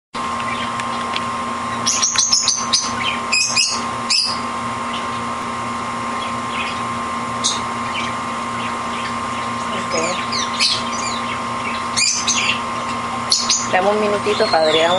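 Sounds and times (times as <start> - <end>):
background hum: 0.2 - 14.9
canary chirping: 1.8 - 5.2, 6.2 - 14.9.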